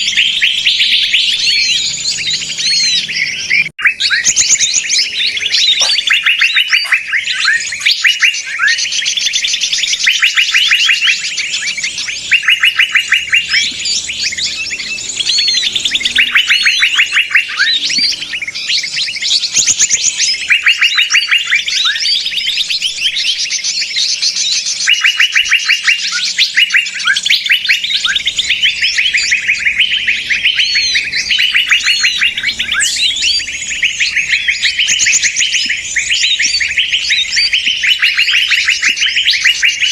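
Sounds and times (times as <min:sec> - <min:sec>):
songbirds chattering and chirping: 0:00.0 - 0:39.9.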